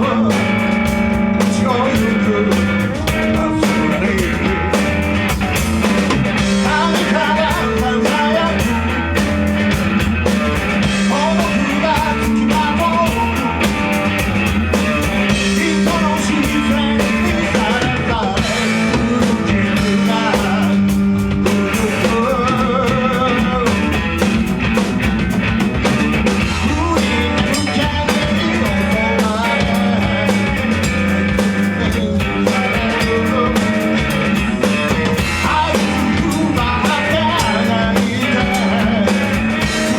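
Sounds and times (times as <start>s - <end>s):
person singing: 0.0s - 5.1s, 6.4s - 9.4s, 10.8s - 24.4s, 26.4s - 39.9s
bass guitar: 0.0s - 39.9s
drum kit: 0.0s - 39.9s
electric guitar: 0.0s - 39.9s.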